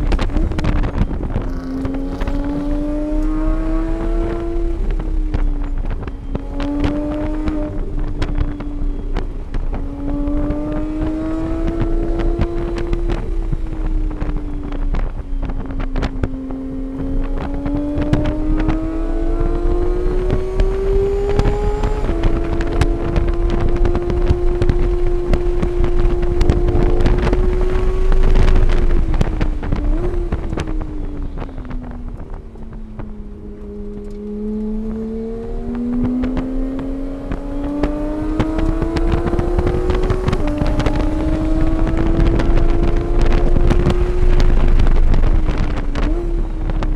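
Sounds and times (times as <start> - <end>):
race car engine revving: 0.0 - 46.9
wind buffeting microphone: 0.0 - 46.9.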